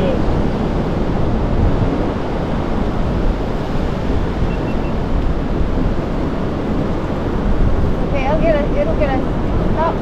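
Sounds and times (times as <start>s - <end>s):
ocean surf on beach: 0.0s - 10.0s
wind noise on microphone: 0.0s - 10.0s.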